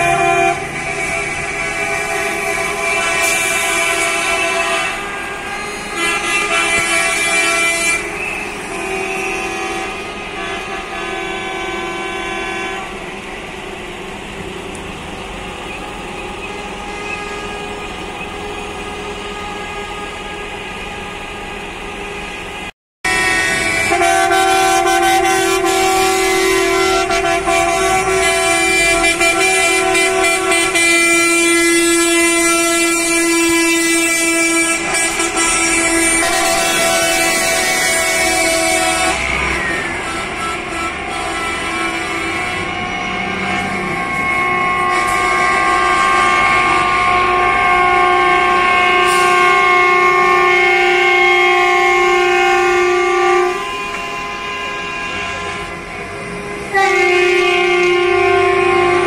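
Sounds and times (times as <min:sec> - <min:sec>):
coach horns blasting: 0:00.0 - 0:59.0.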